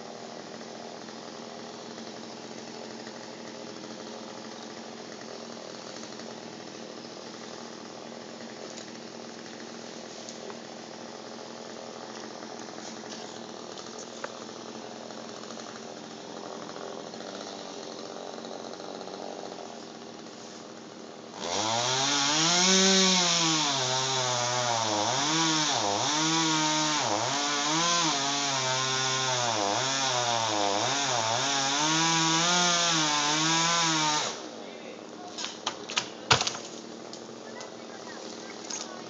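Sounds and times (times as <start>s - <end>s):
chainsaw cutting tree trunk: 0.0s - 34.6s.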